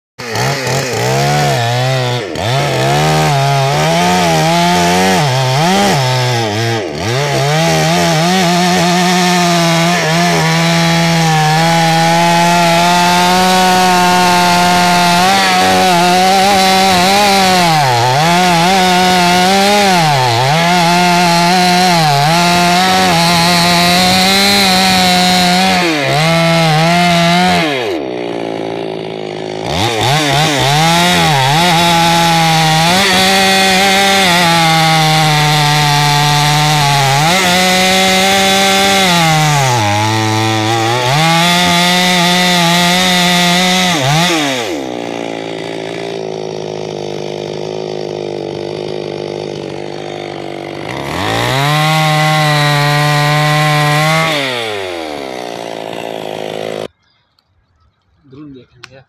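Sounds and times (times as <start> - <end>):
chainsaw cutting wood: 0.2 - 56.9.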